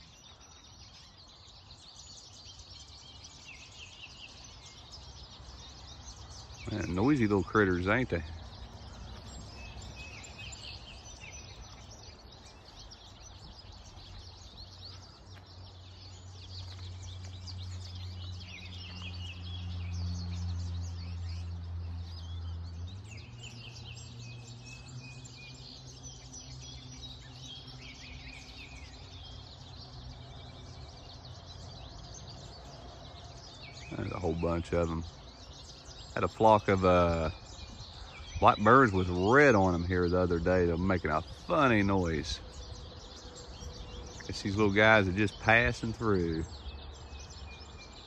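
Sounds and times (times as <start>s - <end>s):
finches chirping and twittering: 0.0s - 48.0s.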